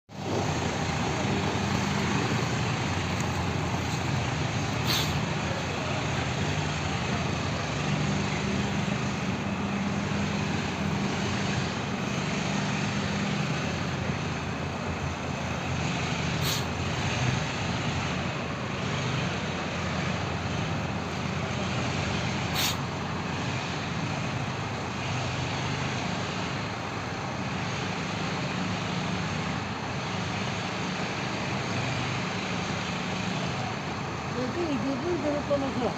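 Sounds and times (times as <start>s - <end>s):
heavy vehicle engine running: 0.1s - 35.9s.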